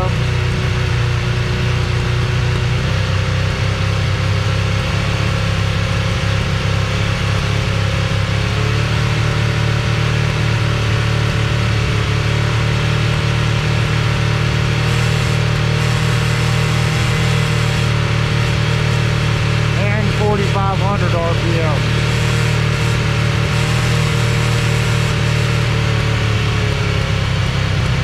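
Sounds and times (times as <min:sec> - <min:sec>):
motorcycle engine at fast idle: 0:00.0 - 0:28.0.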